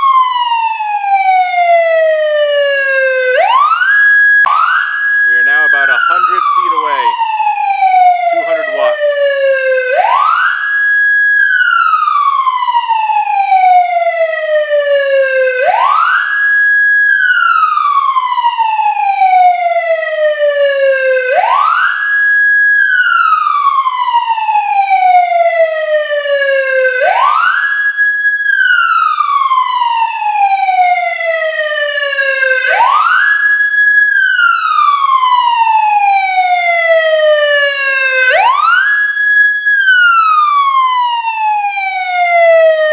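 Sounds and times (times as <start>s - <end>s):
electronic siren wailing: 0.0s - 42.9s.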